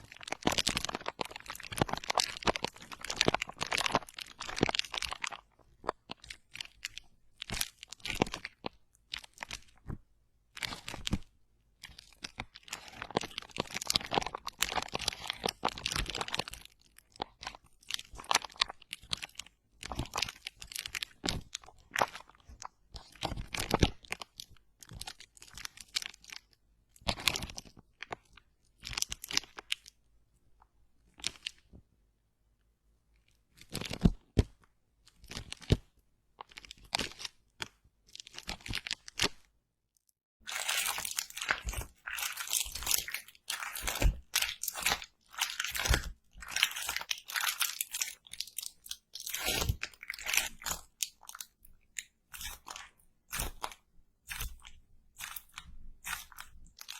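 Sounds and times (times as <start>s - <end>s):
crisp crunching and crackling: 0.0s - 30.0s, 33.5s - 39.5s, 40.4s - 56.9s.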